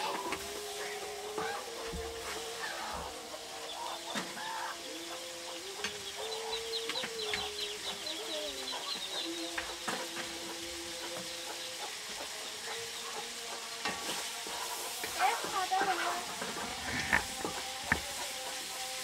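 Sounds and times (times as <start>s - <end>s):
shrimp sizzling in hot oil: 0.0s - 19.0s.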